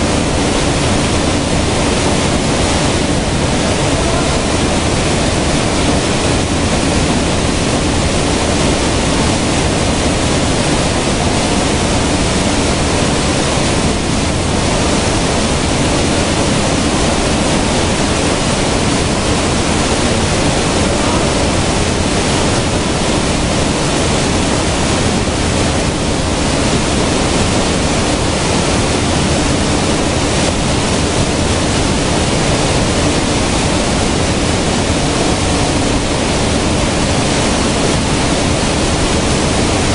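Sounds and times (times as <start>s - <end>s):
sieve machines rushing noise: 0.0s - 39.9s.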